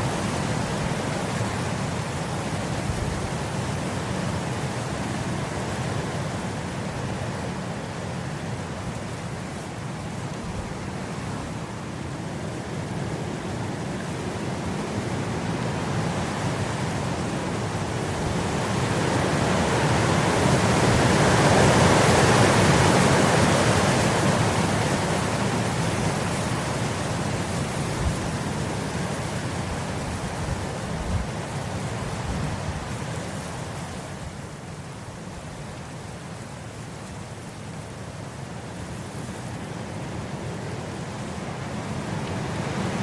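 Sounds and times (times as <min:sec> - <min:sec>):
wind blowing across grass: 0:00.0 - 0:43.0.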